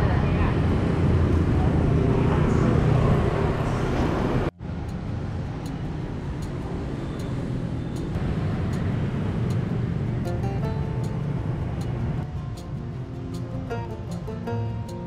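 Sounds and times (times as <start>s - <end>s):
rumble of passing traffic: 0.0s - 15.0s.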